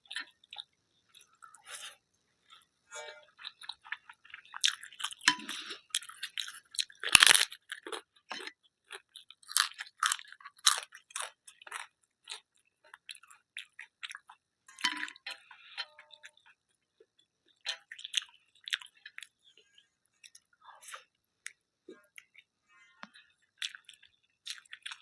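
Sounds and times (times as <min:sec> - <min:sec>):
chewing crisp crunches: 0:03.4 - 0:15.5, 0:16.2 - 0:19.6, 0:20.2 - 0:25.0.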